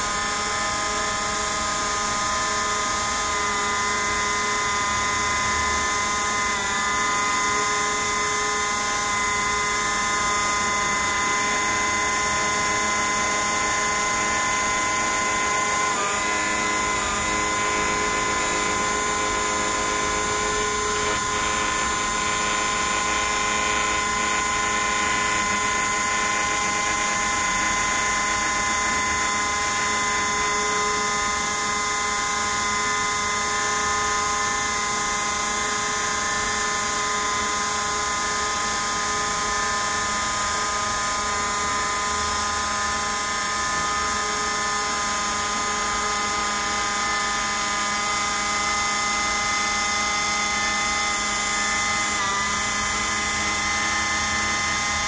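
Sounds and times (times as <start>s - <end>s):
router spindle high-pitched whine: 0.0s - 55.0s.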